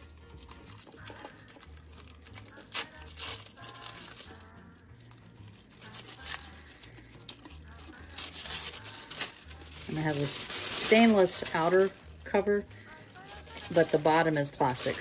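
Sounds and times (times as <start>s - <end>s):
wrapping sheet crinkling: 0.0s - 15.0s.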